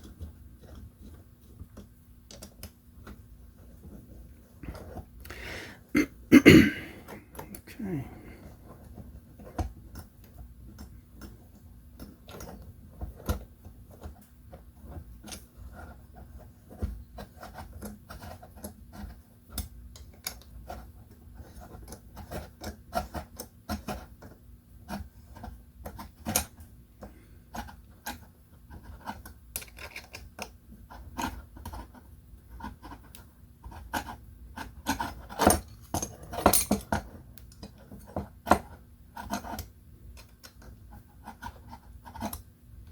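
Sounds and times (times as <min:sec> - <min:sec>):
small clicks and rubbing: 0:00.0 - 0:05.3, 0:08.4 - 0:42.9.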